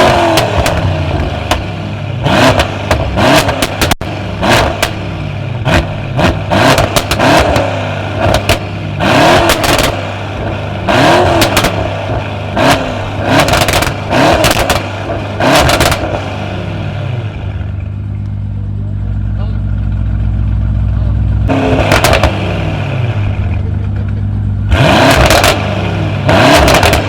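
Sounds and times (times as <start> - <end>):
car engine idling: 0.0 - 27.0
car engine revving: 0.0 - 27.0.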